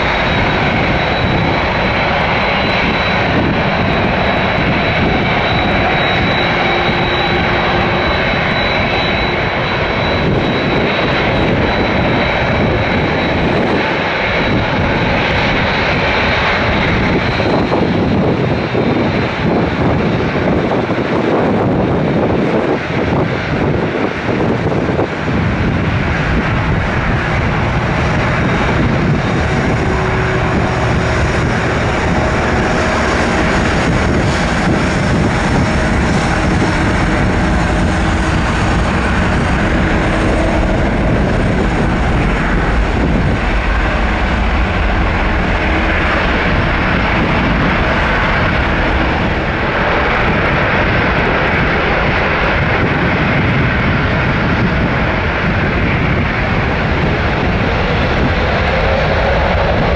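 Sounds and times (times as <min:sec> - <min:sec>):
high engine whine: 0:00.0 - 0:59.9
jet engines running: 0:00.0 - 0:59.9.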